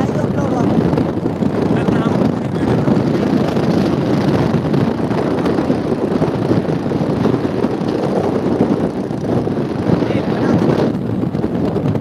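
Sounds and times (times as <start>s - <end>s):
vehicle road noise: 0.0s - 12.0s
wind buffeting microphone: 0.0s - 12.0s.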